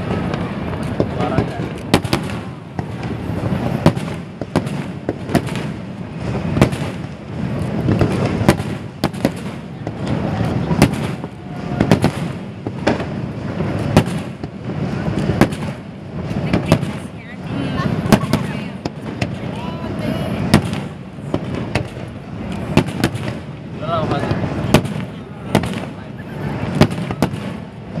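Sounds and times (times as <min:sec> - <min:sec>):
firework shells bursting: 0:00.0 - 0:28.0.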